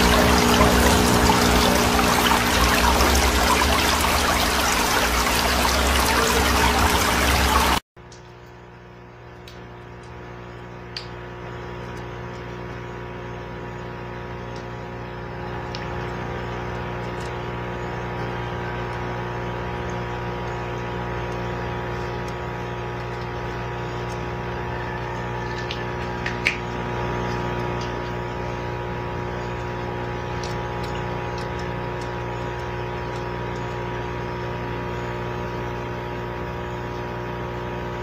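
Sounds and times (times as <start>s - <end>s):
aquarium pump humming: 0.0s - 38.0s.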